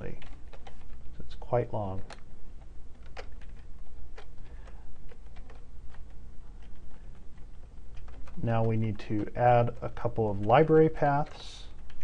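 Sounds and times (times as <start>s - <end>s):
keyboard keys clicking: 0.0s - 12.0s.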